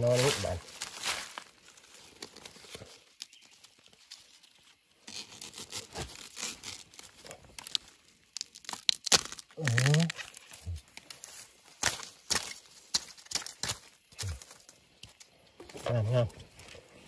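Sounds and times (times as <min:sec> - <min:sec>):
undergrowth rustling and crackling: 0:00.0 - 0:17.0
twigs snapping: 0:00.2 - 0:16.8.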